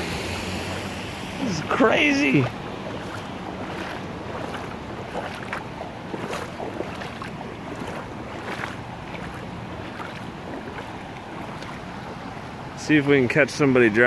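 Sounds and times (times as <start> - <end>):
splashes of person wading: 0.0 - 12.8
flood water rushing: 0.0 - 14.0.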